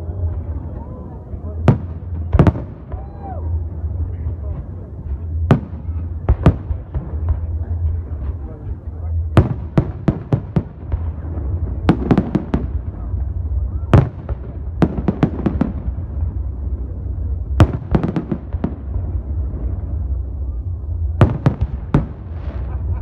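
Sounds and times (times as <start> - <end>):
low rumble: 0.0 - 23.0
fireworks bursting: 1.5 - 23.0.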